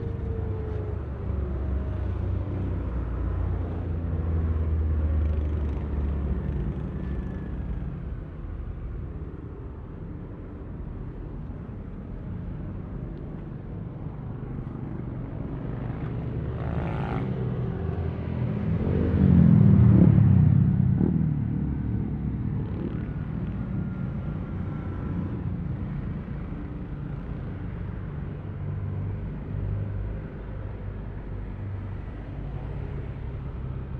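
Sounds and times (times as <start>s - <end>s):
road and wind noise: 0.0s - 33.9s.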